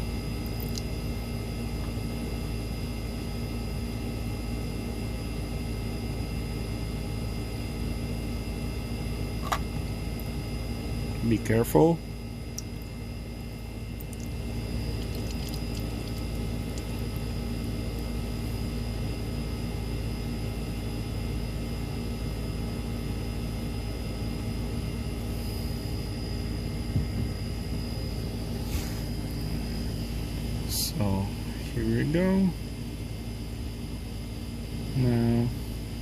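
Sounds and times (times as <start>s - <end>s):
steady machine hum: 0.0s - 36.0s.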